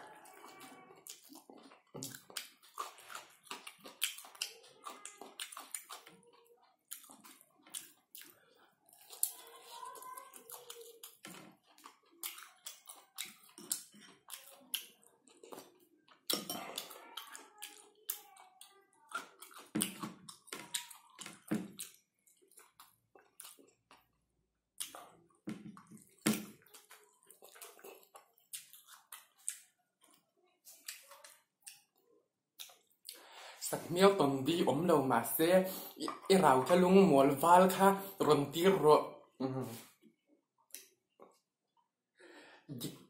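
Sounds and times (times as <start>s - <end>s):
wet chewing and mouth smacking: 0.0s - 33.3s, 39.8s - 41.9s.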